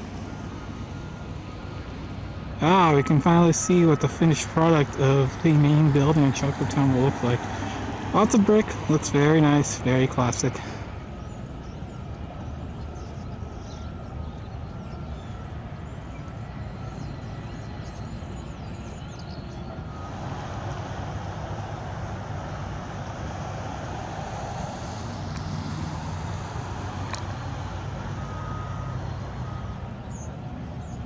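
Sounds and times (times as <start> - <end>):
low rumble of vehicle engines: 0.0 - 31.0.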